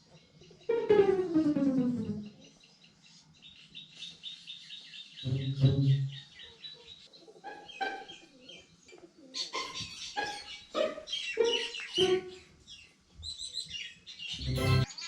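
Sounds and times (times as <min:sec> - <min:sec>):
birds chirping and calling: 0:02.3 - 0:15.0.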